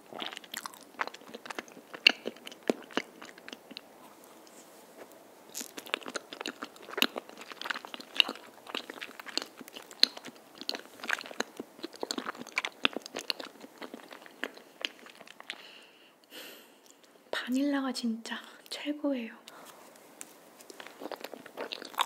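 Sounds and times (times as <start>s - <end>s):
chewing with mouth clicks: 0.0s - 15.7s, 19.5s - 22.0s.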